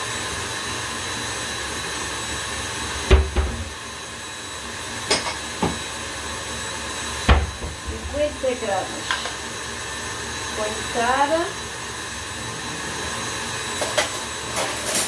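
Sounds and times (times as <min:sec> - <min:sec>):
stand mixer whisking: 0:00.0 - 0:15.0.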